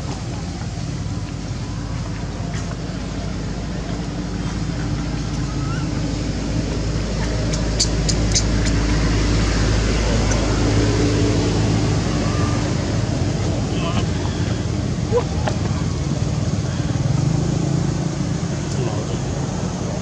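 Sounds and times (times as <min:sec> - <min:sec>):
motor engine humming: 0:00.0 - 0:20.0.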